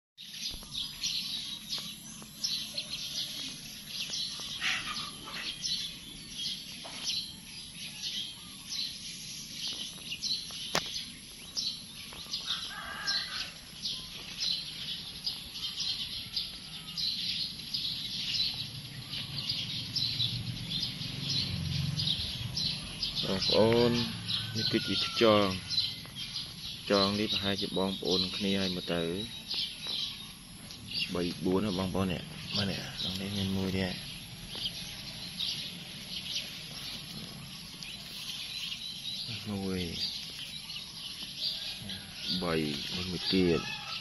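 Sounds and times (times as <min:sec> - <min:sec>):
birds chirping: 0:00.2 - 0:44.0.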